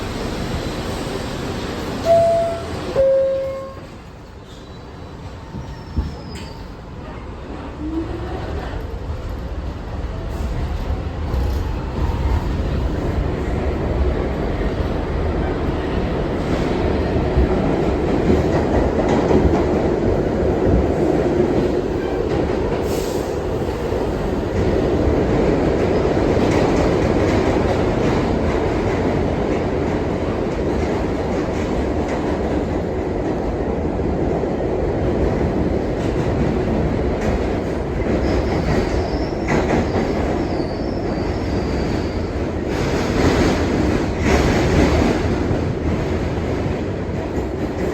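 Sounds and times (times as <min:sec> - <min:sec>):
subway train wheels rumbling: 0:00.0 - 0:47.9.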